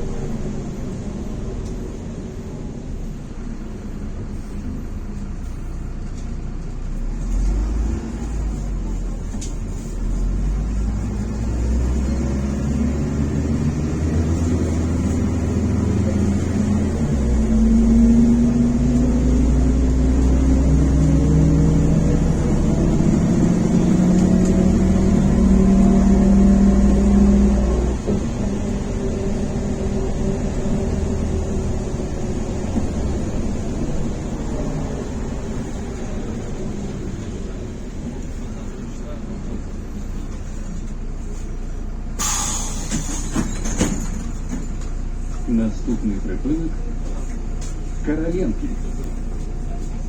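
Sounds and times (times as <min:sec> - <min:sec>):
bus diesel engine accelerating: 0:00.0 - 0:50.0.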